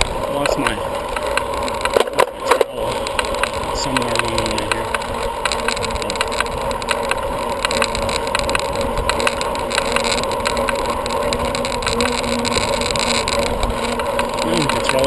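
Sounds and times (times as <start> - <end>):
faint steady hum: 0.0 - 15.0
wind and road noise: 0.0 - 15.0
sharp little ticks: 0.4 - 15.0.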